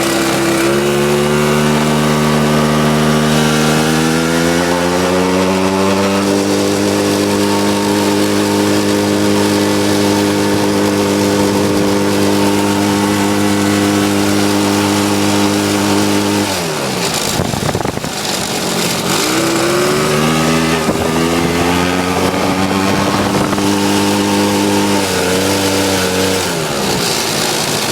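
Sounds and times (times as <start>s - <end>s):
small two-stroke engine idling: 0.0s - 27.9s.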